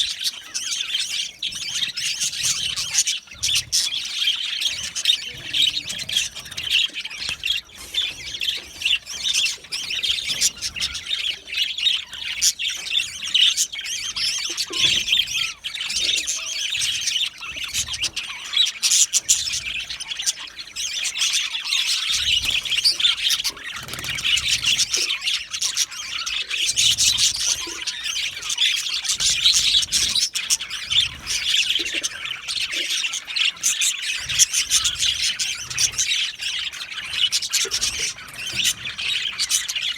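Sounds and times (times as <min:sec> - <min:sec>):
bird squawks: 0:00.0 - 0:39.9
budgerigars chirping and chattering: 0:00.0 - 0:39.9.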